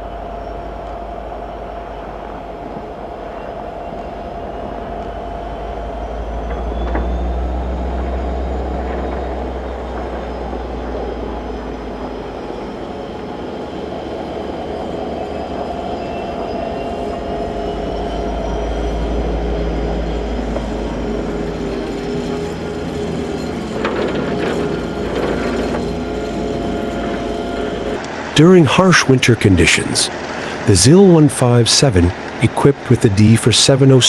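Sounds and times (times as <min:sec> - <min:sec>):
train engine held tones: 0:00.0 - 0:34.0.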